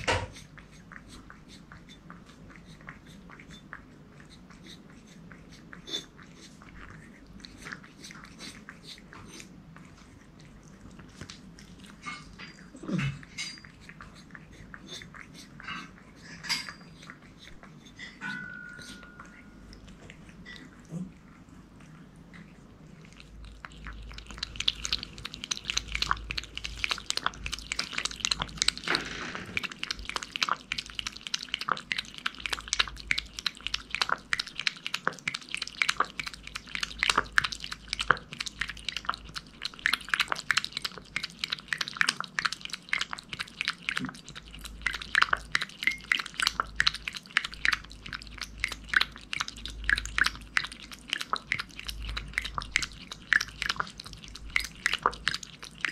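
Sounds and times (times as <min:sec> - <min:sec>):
cat lapping wet food: 0:00.0 - 0:55.9.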